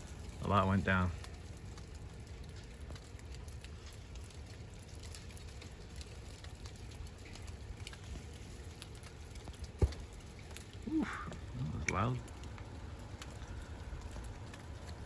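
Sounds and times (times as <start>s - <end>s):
melting snow dripping: 0.0s - 15.0s.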